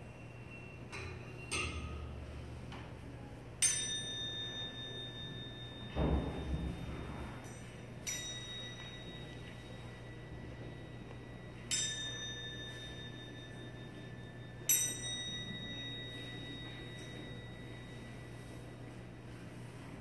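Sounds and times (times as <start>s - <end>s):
metal chimes ringing: 0.0s - 2.5s, 3.5s - 19.2s.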